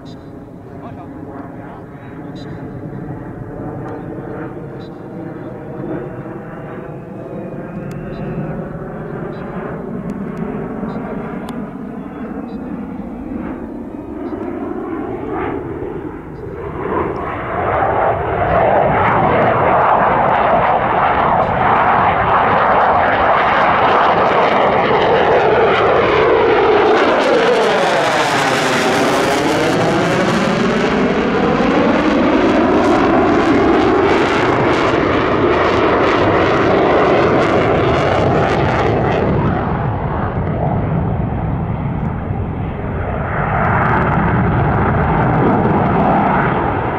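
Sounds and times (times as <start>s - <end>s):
afterburner roar: 0.0s - 46.9s
jet engine passing: 0.0s - 46.9s.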